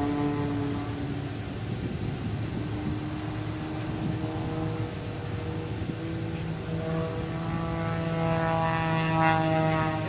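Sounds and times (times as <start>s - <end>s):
airplane engine droning overhead: 0.0s - 10.0s.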